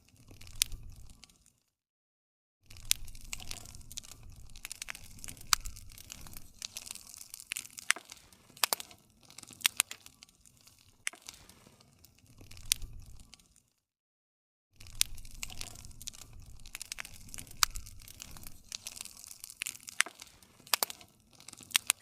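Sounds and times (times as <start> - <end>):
low rumble of flames: 0.0 - 1.4, 2.7 - 13.6, 14.8 - 22.0
burning wood popping: 0.0 - 1.6, 2.7 - 13.6, 14.8 - 22.0
wood fire crackling: 0.0 - 1.6, 2.7 - 13.7, 14.8 - 22.0.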